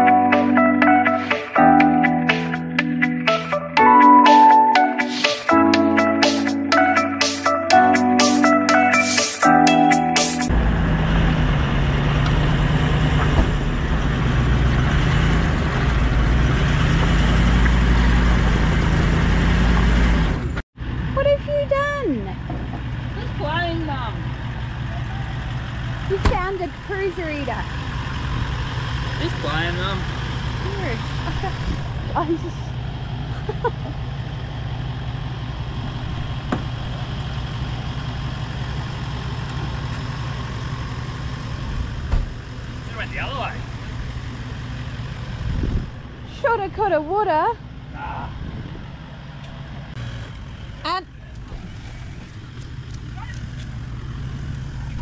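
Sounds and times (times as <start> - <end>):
engine running low: 10.4 - 55.0.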